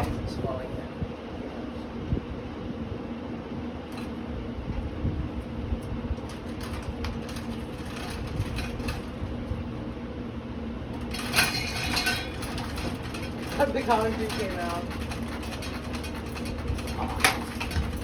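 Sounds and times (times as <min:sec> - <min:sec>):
fan knocking and rattling: 0:00.0 - 0:02.9, 0:03.6 - 0:18.0
ceiling fan motor humming: 0:00.0 - 0:18.0.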